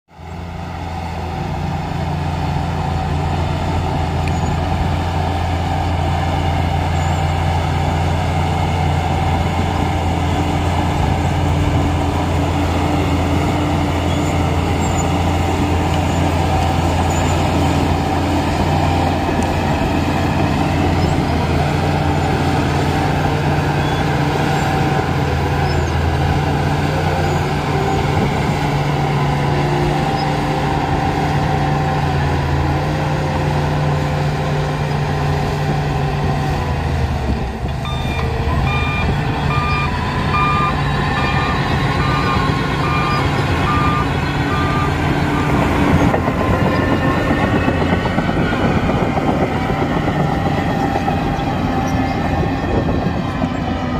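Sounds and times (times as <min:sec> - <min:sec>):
bulldozer diesel engine under load: 0:00.1 - 0:53.9.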